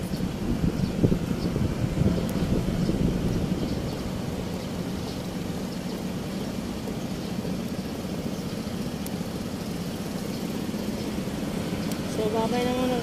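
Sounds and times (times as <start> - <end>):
car engines idling and running: 0.0 - 13.0
low traffic hum: 0.0 - 13.0.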